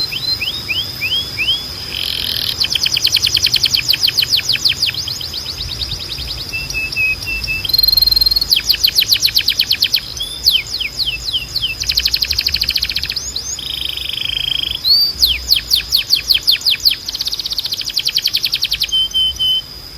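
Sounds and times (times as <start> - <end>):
canary singing: 0.0 - 19.9.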